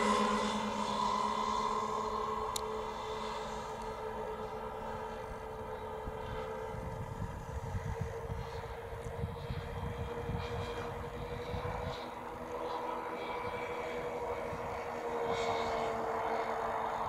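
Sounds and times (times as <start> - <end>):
model aircraft engines droning: 0.0 - 17.0
wind rumble on microphone: 0.0 - 17.0.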